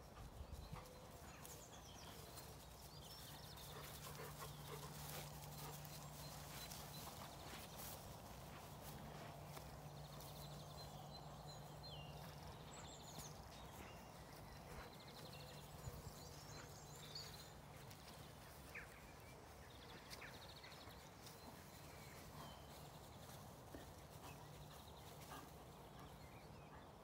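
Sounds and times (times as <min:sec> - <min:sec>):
songbird trills and chirps: 0:00.0 - 0:27.0.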